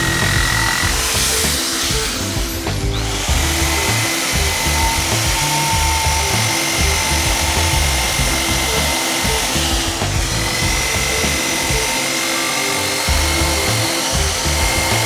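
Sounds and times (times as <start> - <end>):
background music: 0.0 - 15.0
drill with wire brush scrubbing: 0.0 - 15.0.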